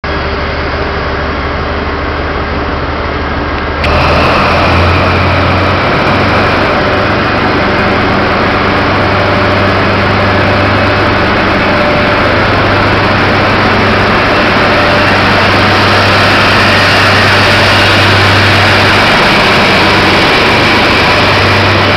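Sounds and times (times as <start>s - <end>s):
diesel train engine running: 0.0s - 21.9s.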